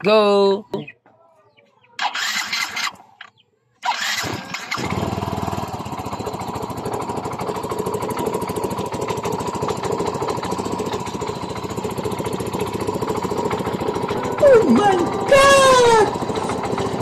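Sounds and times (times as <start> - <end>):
scooter engine starting and idling: 2.0 - 17.0.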